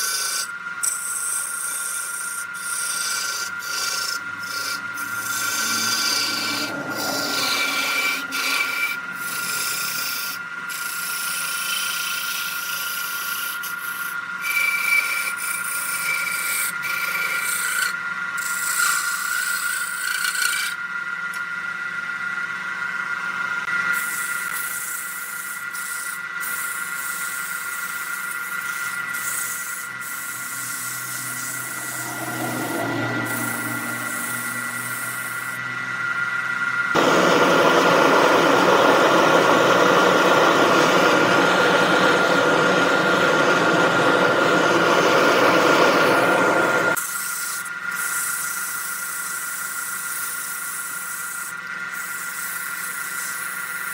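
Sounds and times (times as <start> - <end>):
tool scraping spinning wood: 0.0 - 21.5, 22.9 - 53.9
wood lathe whine: 0.0 - 53.9.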